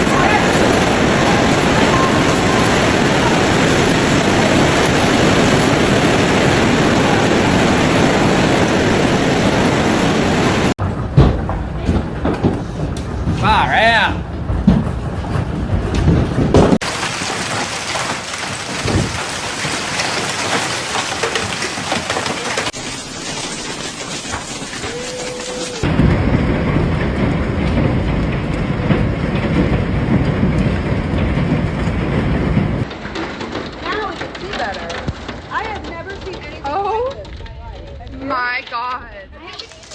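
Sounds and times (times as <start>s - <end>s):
hail and rain pelting down: 0.0s - 10.8s, 16.8s - 38.8s.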